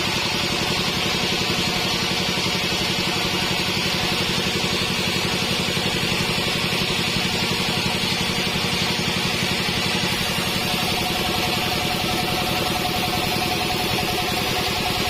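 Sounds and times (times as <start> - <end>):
bandsaw running: 0.0 - 15.0.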